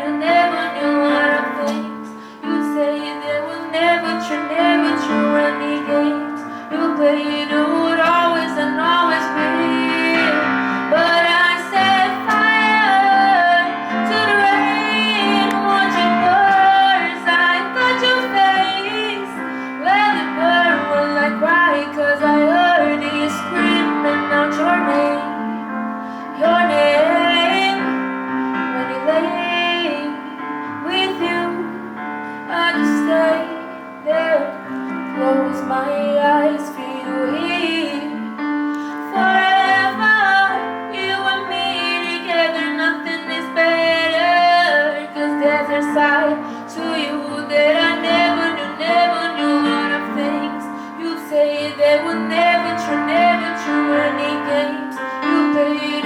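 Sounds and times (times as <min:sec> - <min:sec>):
piano accompaniment: 0:00.0 - 0:56.0
woman singing a pop ballad: 0:00.0 - 0:56.0.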